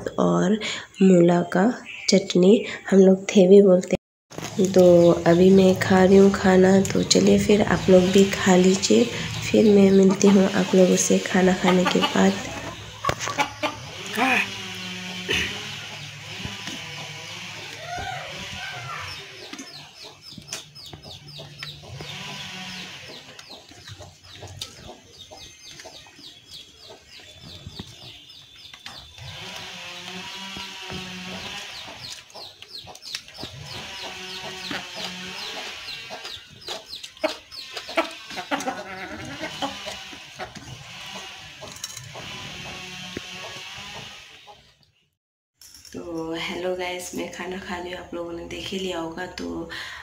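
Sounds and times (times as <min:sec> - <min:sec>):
chickens clucking: 0:04.4 - 0:45.0.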